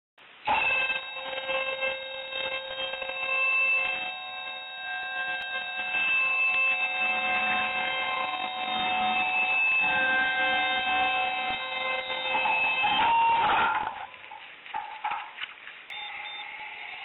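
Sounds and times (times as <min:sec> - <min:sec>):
high electronic whine: 0:00.2 - 0:17.0.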